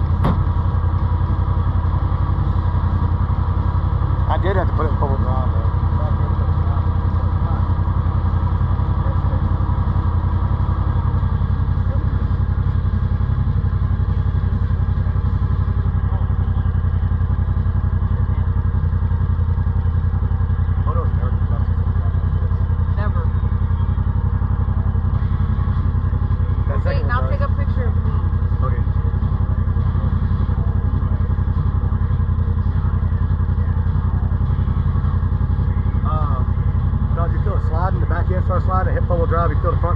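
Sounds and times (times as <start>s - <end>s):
off-road vehicle engine droning: 0.0s - 39.9s.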